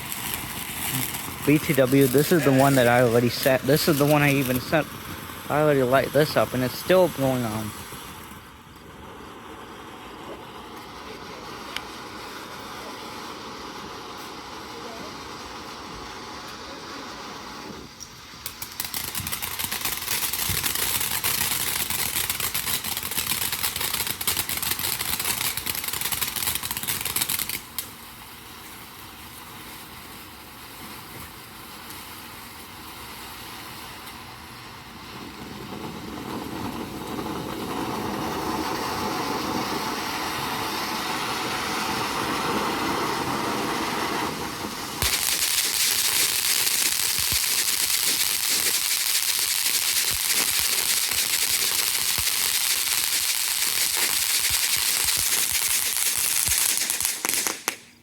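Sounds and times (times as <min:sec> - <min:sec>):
firework hissing and crackling: 0:00.0 - 0:58.0.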